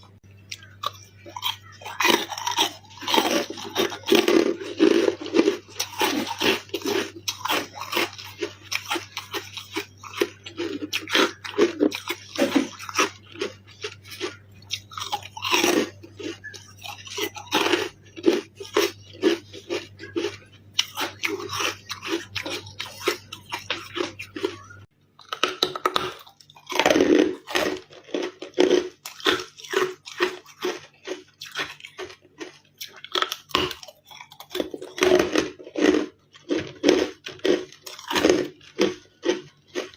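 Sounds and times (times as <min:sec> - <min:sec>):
chewing crunchy ice: 0:00.0 - 0:39.9.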